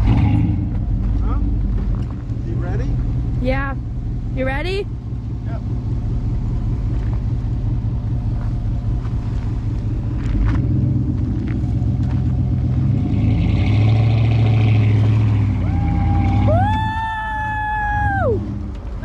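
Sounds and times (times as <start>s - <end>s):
vehicle engine low rumble: 0.0s - 19.0s.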